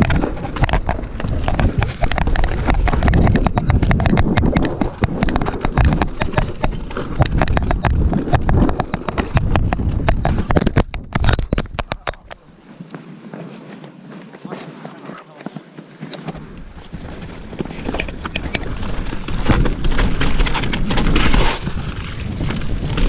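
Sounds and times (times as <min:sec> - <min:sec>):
bike clattering over rocks: 0:00.0 - 0:12.4, 0:16.0 - 0:23.0
wind rumble on microphone: 0:00.0 - 0:12.5, 0:16.3 - 0:23.0.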